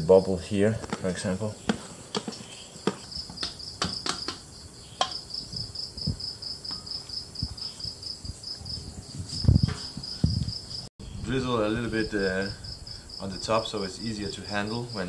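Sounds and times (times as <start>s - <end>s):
insect chirping trill: 1.5s - 15.0s.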